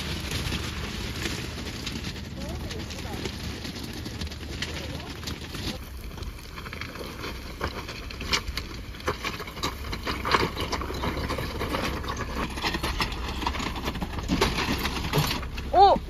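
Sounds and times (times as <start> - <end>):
tyres crunching over cobblestones: 0.0 - 16.0.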